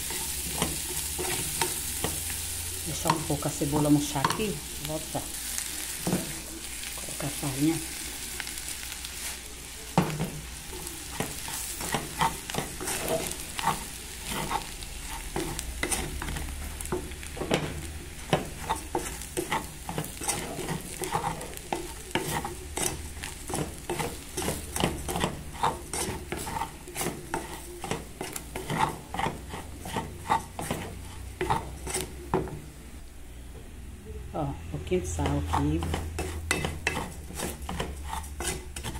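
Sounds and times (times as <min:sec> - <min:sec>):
wooden spoon scraping metal pan: 0:00.0 - 0:05.3, 0:10.0 - 0:32.6, 0:35.0 - 0:38.9
food sizzling in a pan: 0:00.0 - 0:33.0, 0:34.4 - 0:38.9.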